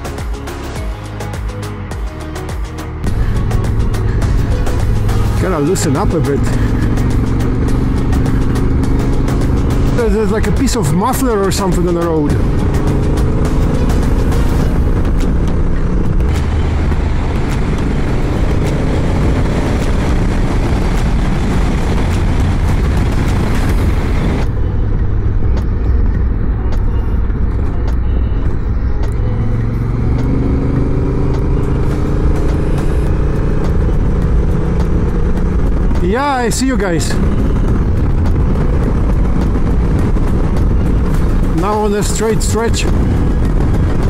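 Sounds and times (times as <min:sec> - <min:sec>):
motorcycle engine running: 0:00.0 - 0:44.0
wind and tyre noise: 0:02.8 - 0:44.0.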